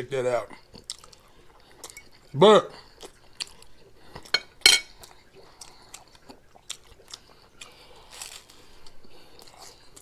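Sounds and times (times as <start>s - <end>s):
chewing mouth sounds: 0.6s - 4.3s, 5.0s - 10.0s.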